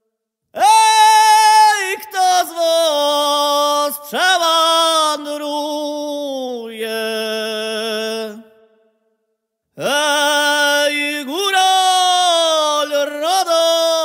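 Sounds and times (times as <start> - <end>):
man singing unaccompanied: 0.6 - 8.7, 9.8 - 14.0.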